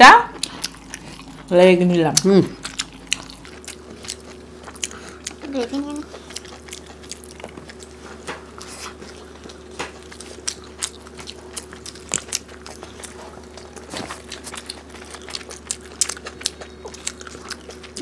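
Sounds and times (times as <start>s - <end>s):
chewing and lip smacks: 0.4s - 1.5s, 2.2s - 18.0s.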